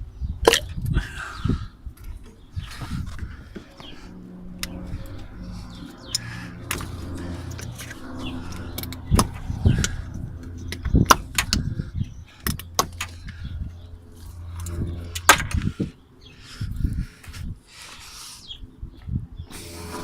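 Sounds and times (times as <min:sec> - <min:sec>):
low hum: 0:00.9 - 0:17.6, 0:19.2 - 0:20.0.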